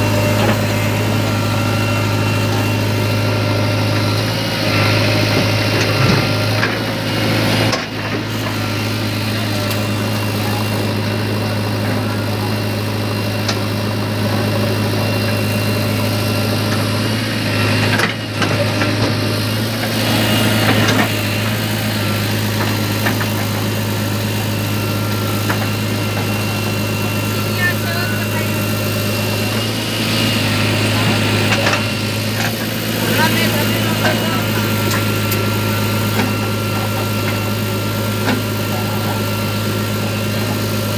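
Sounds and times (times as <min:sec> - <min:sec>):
backhoe digging and dumping soil: 0:00.0 - 0:40.9
diesel engine running: 0:00.0 - 0:40.9.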